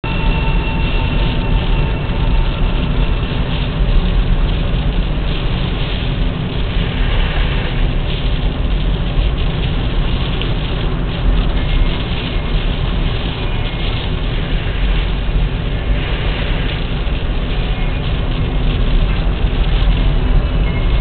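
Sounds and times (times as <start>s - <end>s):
car engine and road noise: 0.0s - 21.0s
wind hiss: 0.2s - 21.0s.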